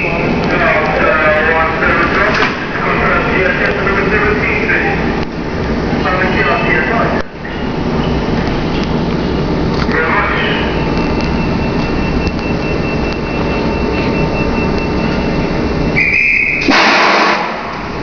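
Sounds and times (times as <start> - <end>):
train running rumble with whine: 0.0 - 18.0.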